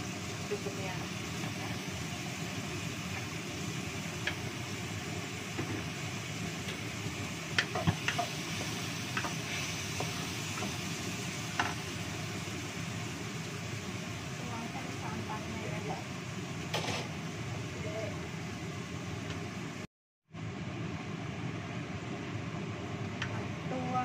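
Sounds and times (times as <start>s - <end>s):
spice paste sizzling in oil: 0.0s - 19.9s.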